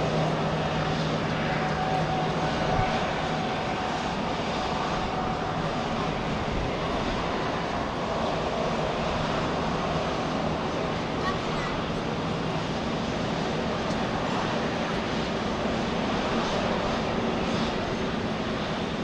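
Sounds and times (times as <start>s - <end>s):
faint jet engine whine: 0.0s - 19.0s
jet airliner climbing: 0.0s - 19.0s.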